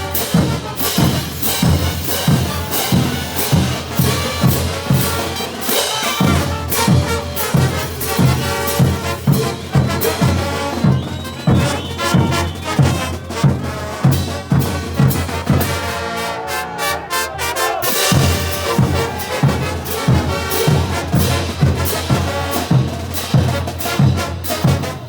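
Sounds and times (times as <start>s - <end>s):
bass drum beat: 0.0s - 16.0s, 17.9s - 25.0s
trumpets and trombones: 0.0s - 25.0s.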